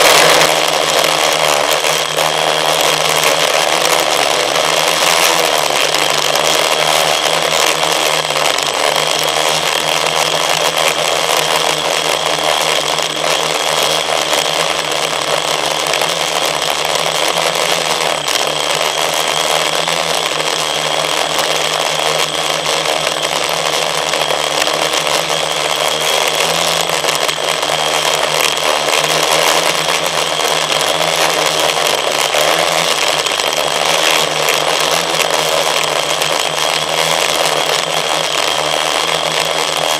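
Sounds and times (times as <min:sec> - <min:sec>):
drone propellers buzzing whine: 0:00.0 - 0:39.9.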